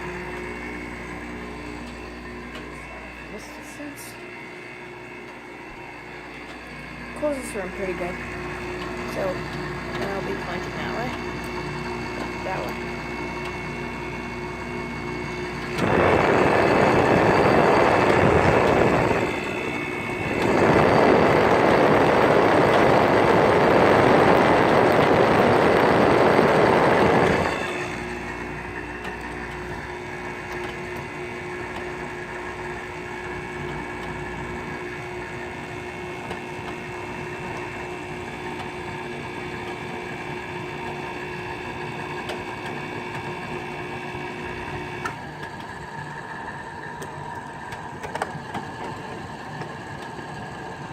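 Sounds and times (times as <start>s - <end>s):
air conditioner humming: 0.0s - 50.9s.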